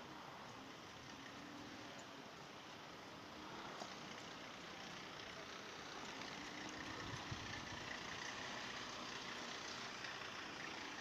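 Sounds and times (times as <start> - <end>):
vehicle engines: 0.0 - 11.0.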